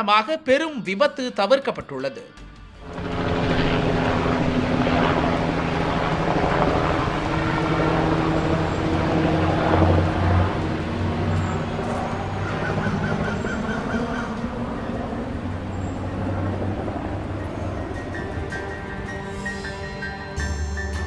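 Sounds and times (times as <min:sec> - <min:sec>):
vehicle engine noise: 0:02.5 - 0:20.0.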